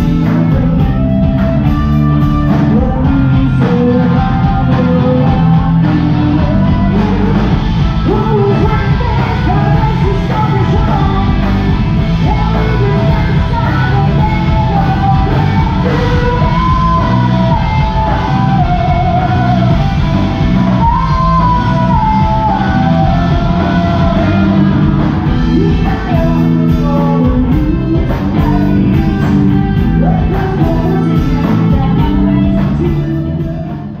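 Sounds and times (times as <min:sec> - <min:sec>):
drum kit: 0:00.0 - 0:34.0
electric guitars: 0:00.0 - 0:34.0
person singing into a microphone: 0:00.0 - 0:34.0.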